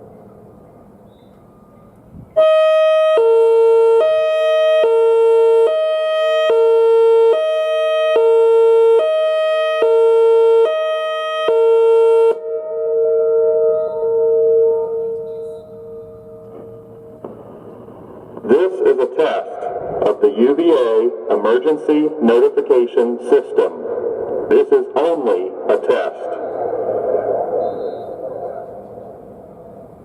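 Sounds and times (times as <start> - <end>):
hi-lo warning siren: 1.5 - 30.0.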